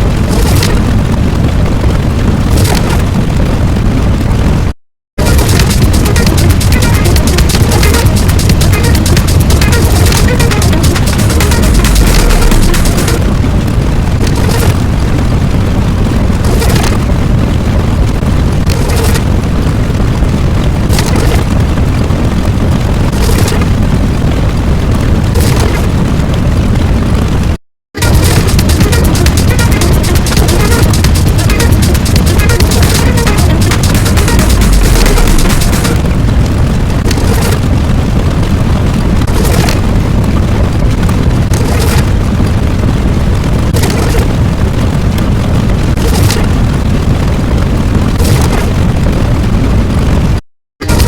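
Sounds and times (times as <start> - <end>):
crackling bursts: 0.0 - 51.0
deep rumbling boom: 0.0 - 51.0.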